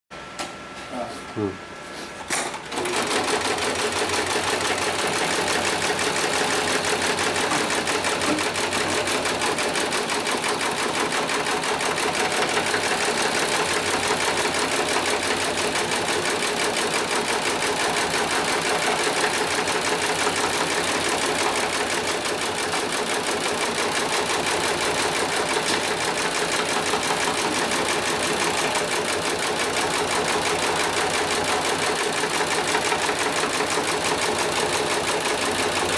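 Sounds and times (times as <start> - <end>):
sewing machine stitching rapidly: 2.5 - 35.9.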